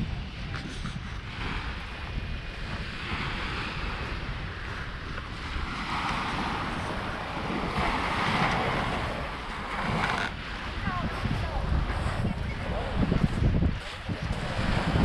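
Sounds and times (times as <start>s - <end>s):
waves breaking on pebbly beach: 0.0s - 15.0s
wind rumbling on microphone: 0.0s - 15.0s.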